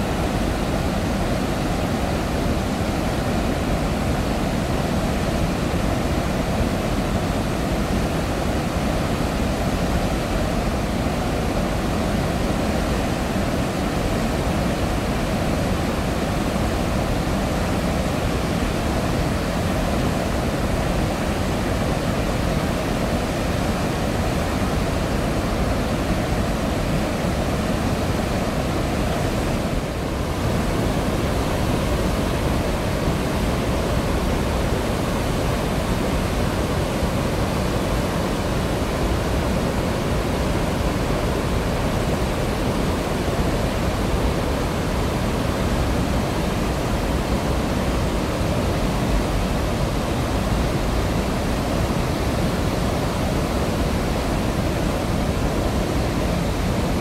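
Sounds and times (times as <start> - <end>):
floodwater roaring through spillway: 0.0 - 57.0.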